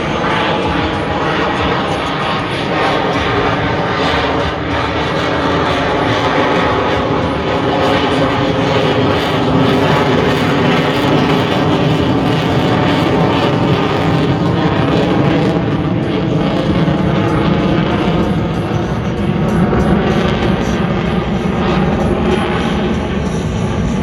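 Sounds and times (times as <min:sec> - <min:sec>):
fighter jet flying over: 0:00.0 - 0:24.0.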